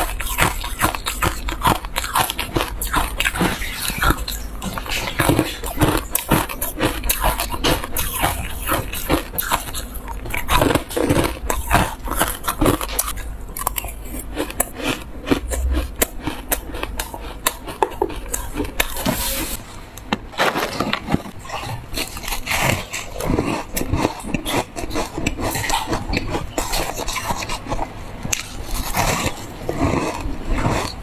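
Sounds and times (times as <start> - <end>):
ice being chewed with crunches: 0.0 - 31.0.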